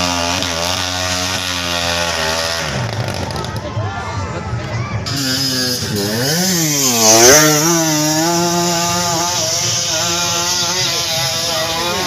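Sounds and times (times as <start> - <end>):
small motorcycle engine revving: 0.0 - 4.0, 4.6 - 12.0.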